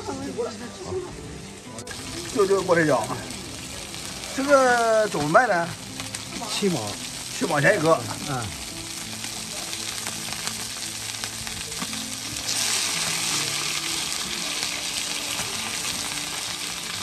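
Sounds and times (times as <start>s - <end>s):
dumplings sizzling in oil: 0.0s - 17.0s.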